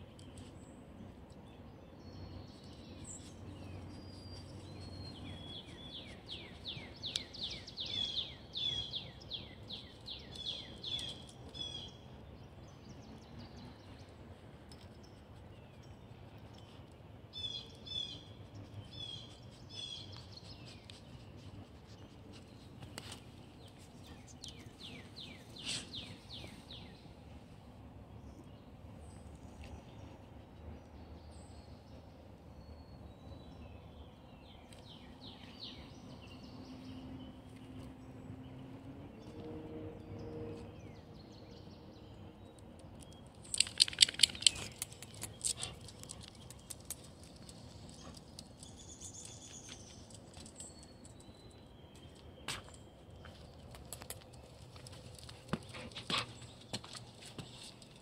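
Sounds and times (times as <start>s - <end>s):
low background hum: 0.0s - 58.0s
songbird singing: 0.0s - 58.0s.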